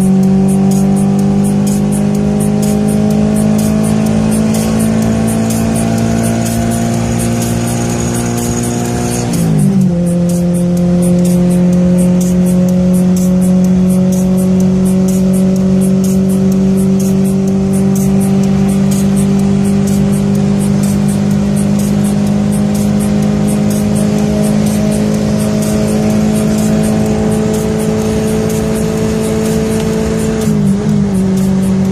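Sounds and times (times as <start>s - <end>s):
car engine running: 0.0s - 31.9s
music with high ticking beat: 0.0s - 31.9s.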